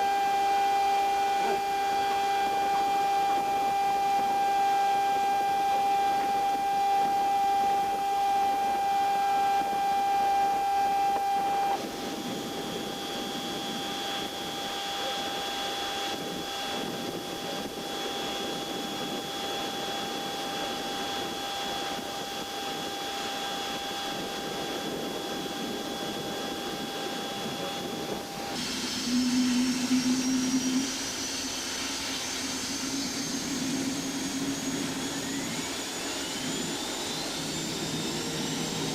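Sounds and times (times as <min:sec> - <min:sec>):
jet engine whine: 0:00.0 - 0:38.9
rising high whine: 0:00.0 - 0:38.9.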